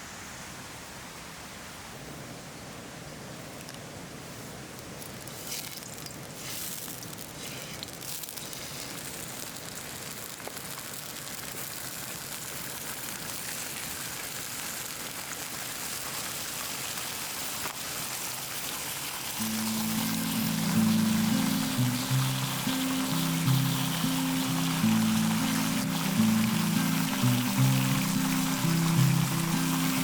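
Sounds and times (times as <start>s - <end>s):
heavy rain hiss: 0.0s - 30.0s.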